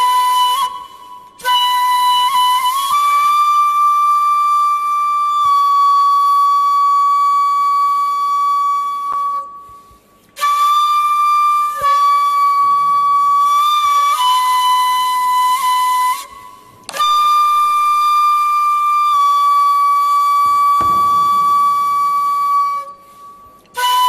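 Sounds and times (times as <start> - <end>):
bamboo flute long held notes: 0.0 - 24.0.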